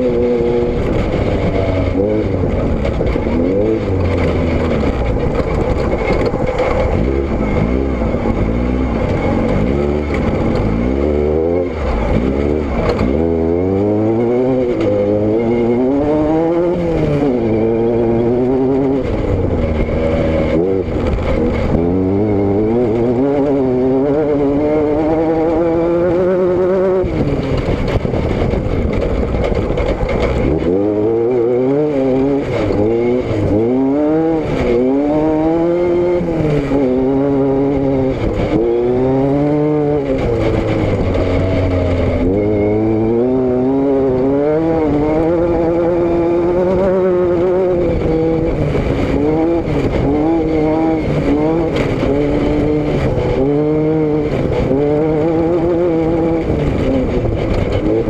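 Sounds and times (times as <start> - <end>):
road and wind noise: 0.0 - 58.0
vehicle engine revving: 0.0 - 58.0.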